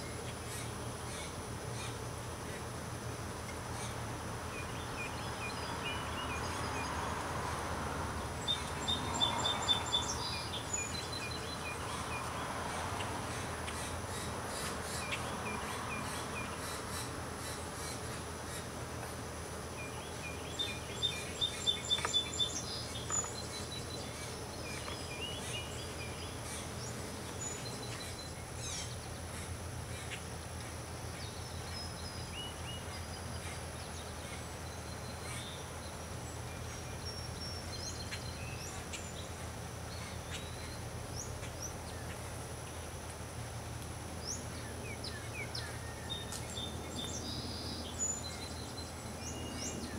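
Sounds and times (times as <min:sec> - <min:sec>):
small birds chirping: 0:03.5 - 0:07.6, 0:08.2 - 0:49.9.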